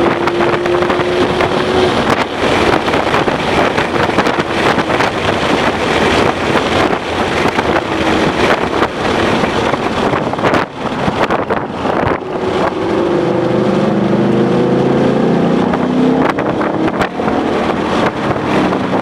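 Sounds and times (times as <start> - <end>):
car engine running hard: 0.0 - 19.0
wind and road noise: 0.0 - 19.0.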